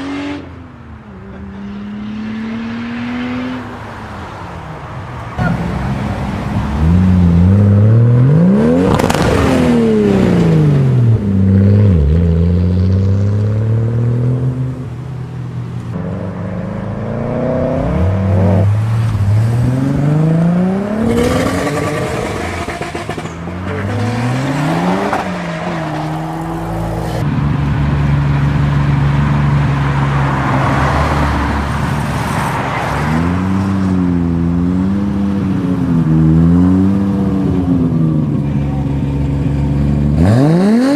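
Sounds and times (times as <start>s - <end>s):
car engine revving: 5.4s - 14.9s, 15.9s - 32.1s, 33.0s - 40.9s.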